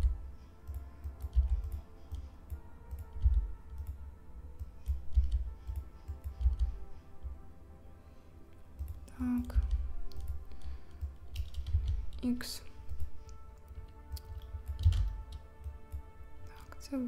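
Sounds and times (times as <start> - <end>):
keyboard keys tapping: 0.0 - 7.3, 8.8 - 16.6
soft background music: 0.0 - 17.0.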